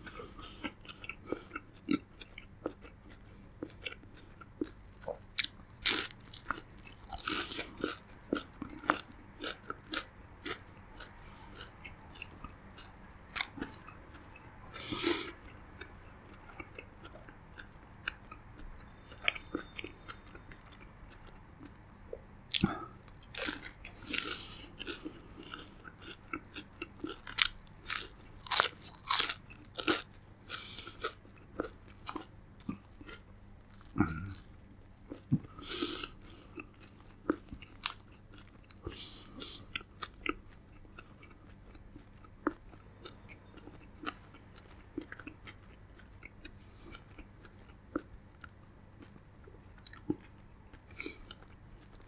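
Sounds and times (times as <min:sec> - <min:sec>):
crunching crisp food: 0:00.1 - 0:21.8, 0:22.5 - 0:49.2, 0:49.8 - 0:52.0.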